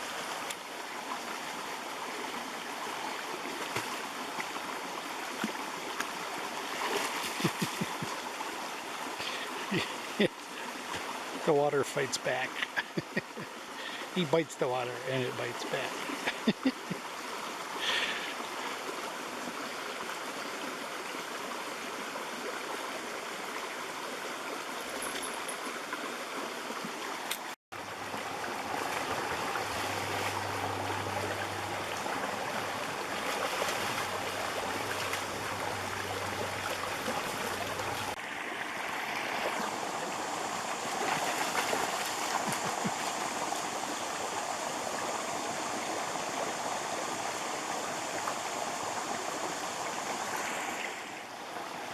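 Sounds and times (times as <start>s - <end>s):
stream flowing over rocks: 0.0s - 51.9s.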